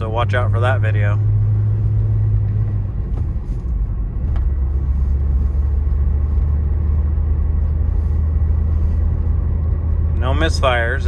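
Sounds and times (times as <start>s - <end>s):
car engine droning: 0.0s - 11.0s
road rumble: 0.0s - 11.0s.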